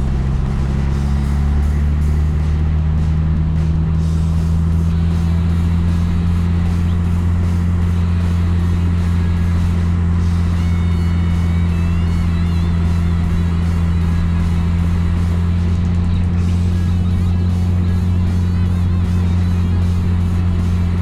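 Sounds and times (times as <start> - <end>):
engine and road drone: 0.0 - 21.0.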